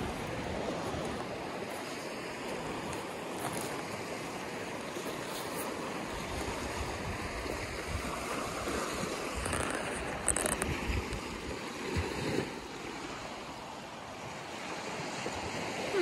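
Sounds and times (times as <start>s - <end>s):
wind rumbling on microphone: 0.0s - 13.6s
waves washing on pebble beach: 0.0s - 16.0s.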